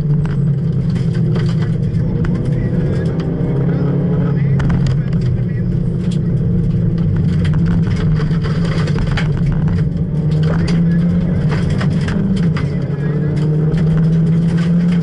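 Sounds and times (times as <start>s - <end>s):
car engine running hard: 0.0s - 15.0s
gravel clattering against car: 0.0s - 15.0s.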